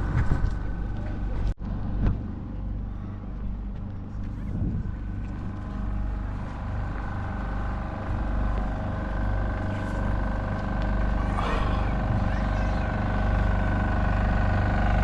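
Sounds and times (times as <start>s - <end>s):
engine hum with whine: 0.0s - 15.0s.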